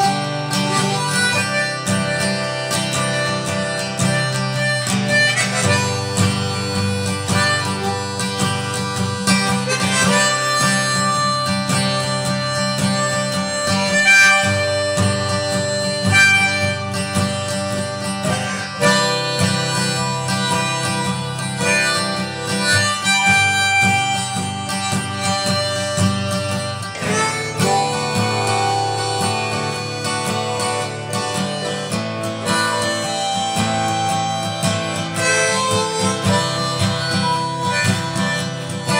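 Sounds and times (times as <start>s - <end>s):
acoustic guitar: 0.0s - 38.9s
harmonica holding long notes: 0.0s - 38.9s.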